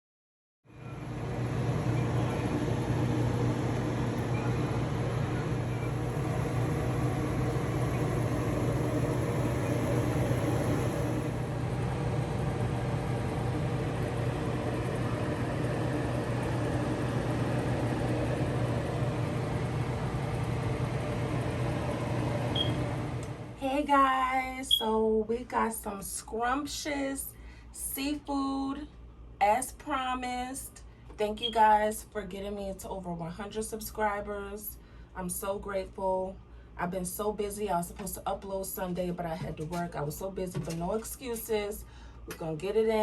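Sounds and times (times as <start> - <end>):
low mechanical hum: 0.7 - 43.0.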